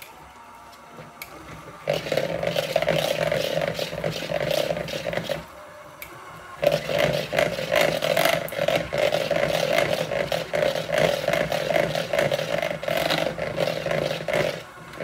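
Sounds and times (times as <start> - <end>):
electric hand mixer running: 0.0 - 15.0.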